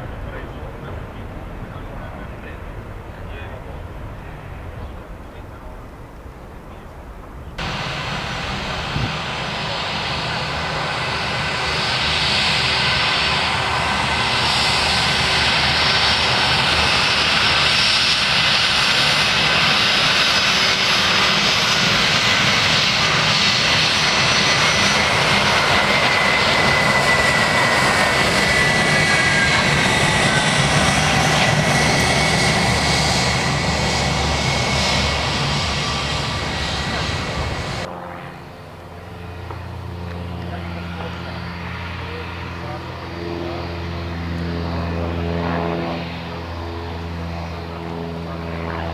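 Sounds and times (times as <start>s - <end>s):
high jet whine: 0.0s - 48.9s
jet engine noise: 0.0s - 48.9s.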